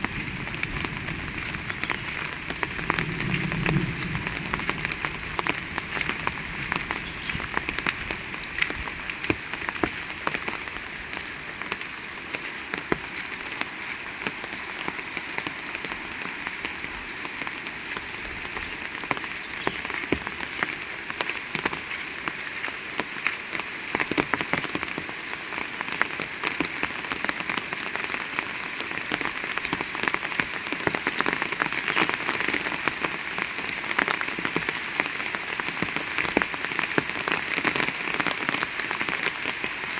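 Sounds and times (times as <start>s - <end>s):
close raindrop impacts: 0.0s - 39.9s
heavy rain falling: 0.0s - 39.9s.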